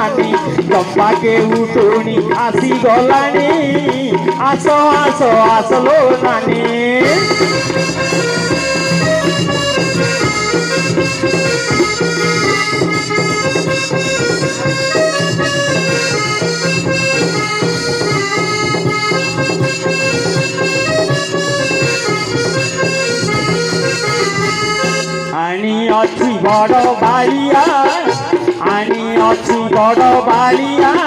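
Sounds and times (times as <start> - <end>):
drumming: 0.0 - 31.0
harmonium melody with drone: 0.0 - 31.0.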